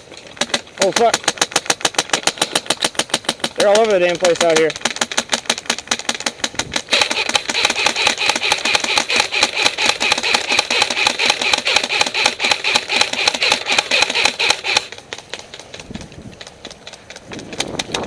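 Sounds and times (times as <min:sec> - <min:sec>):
airsoft gun full-auto burst: 0:00.3 - 0:15.8.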